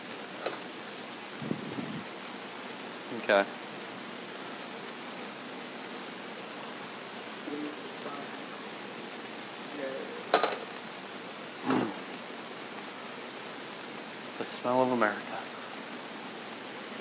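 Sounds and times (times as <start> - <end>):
gas burner hiss: 0.0 - 17.0.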